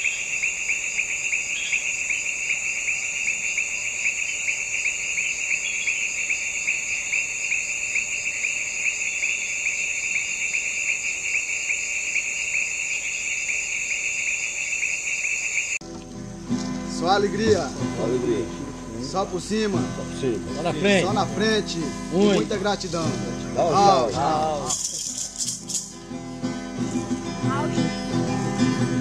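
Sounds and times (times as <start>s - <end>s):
insects trilling: 0.0s - 15.8s, 16.6s - 26.2s.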